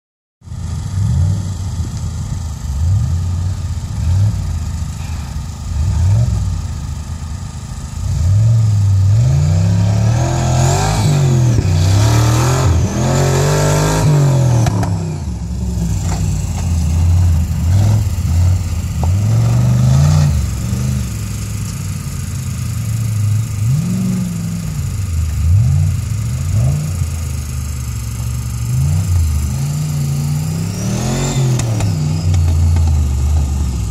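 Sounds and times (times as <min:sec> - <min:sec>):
off-road vehicle engine revving: 0:00.4 - 0:33.9.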